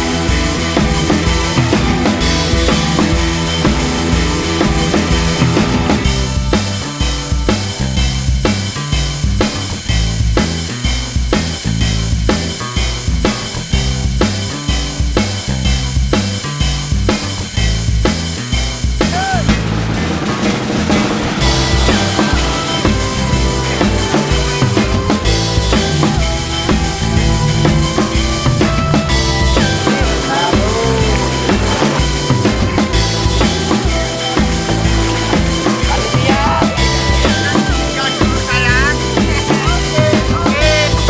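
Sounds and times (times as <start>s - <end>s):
music with drum-kit beat: 0.0s - 41.0s.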